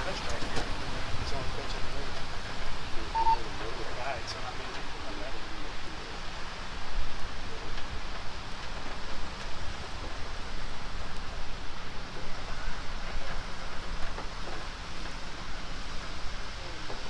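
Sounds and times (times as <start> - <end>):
tram rumbling hiss: 0.0 - 17.0.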